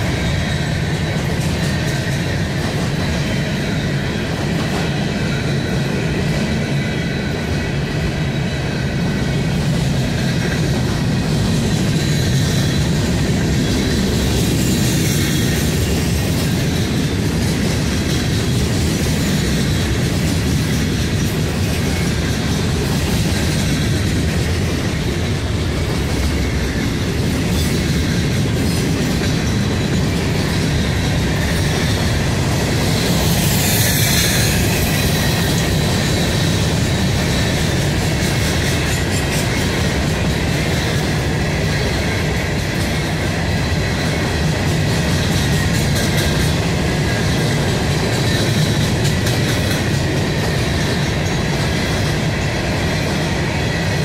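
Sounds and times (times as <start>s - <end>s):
freight train rumbling and rattling: 0.0s - 54.0s
train wheels squealing: 0.0s - 54.0s.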